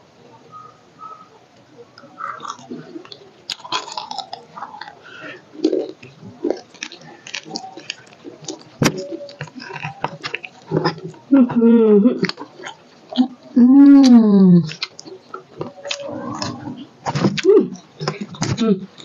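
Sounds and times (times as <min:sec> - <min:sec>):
people chewing and biting: 0:02.0 - 0:19.0.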